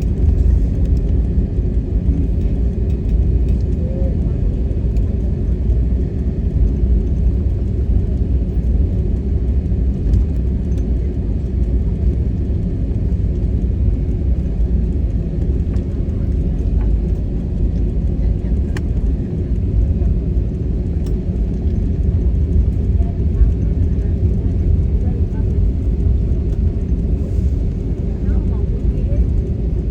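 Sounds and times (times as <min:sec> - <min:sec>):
vehicle engine rumble: 0:00.0 - 0:29.9.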